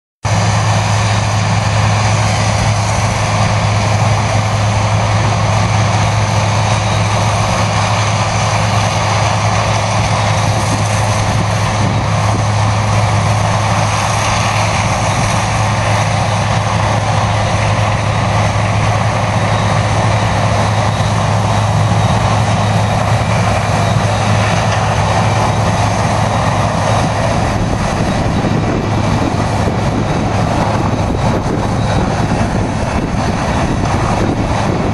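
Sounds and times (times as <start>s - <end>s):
farm machinery engine drone: 0.2s - 34.9s.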